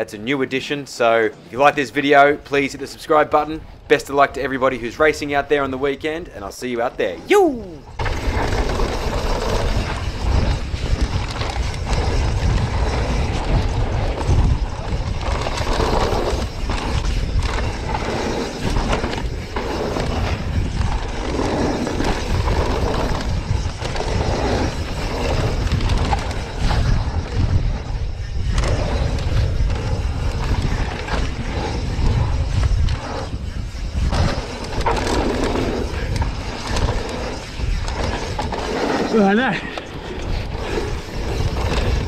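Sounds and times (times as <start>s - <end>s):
bike tyres rolling on dirt: 1.6s - 42.0s
wind buffeting microphone: 2.2s - 42.0s
bike rattling over bumps: 7.9s - 42.0s.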